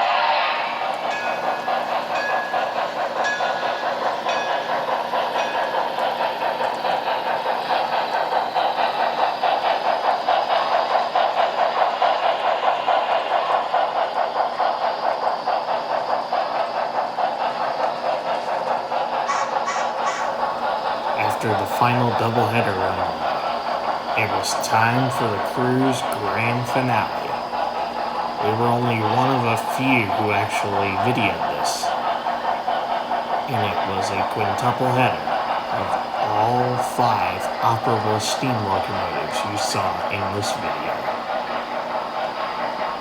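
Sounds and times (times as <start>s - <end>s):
model train clattering on track: 0.8s - 43.0s.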